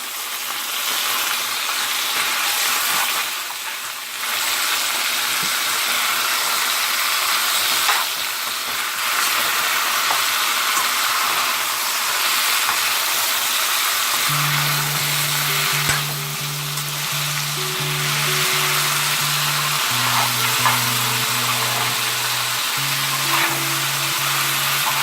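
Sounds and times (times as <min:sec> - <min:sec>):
chicken sizzling in oil: 0:00.0 - 0:25.0.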